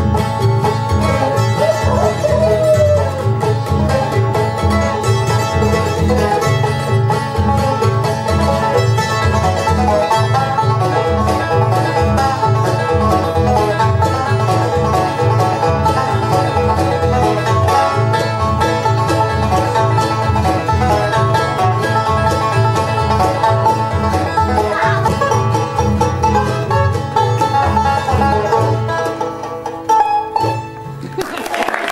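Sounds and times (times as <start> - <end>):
instrumental music with plucked strings: 0.0 - 31.9.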